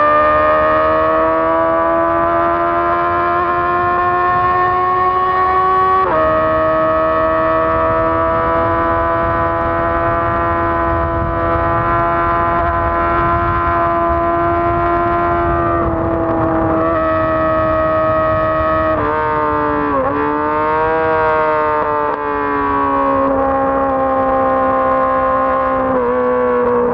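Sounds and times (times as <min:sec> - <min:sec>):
motorcycle engine at high revs: 0:00.0 - 0:26.9
wind rush: 0:02.0 - 0:26.9.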